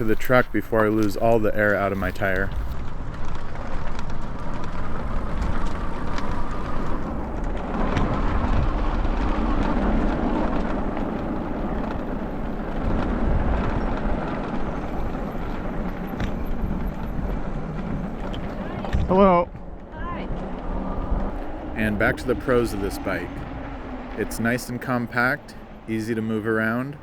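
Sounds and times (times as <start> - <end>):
e-bike riding noise: 0.0 - 27.0
wind buffeting microphone: 0.0 - 27.0.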